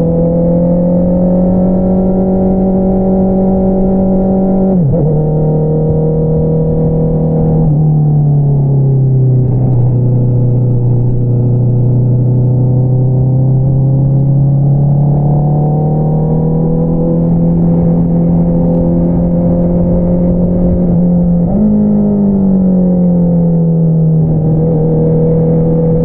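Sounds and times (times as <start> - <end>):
motorcycle engine revving: 0.0 - 8.1, 9.2 - 26.0.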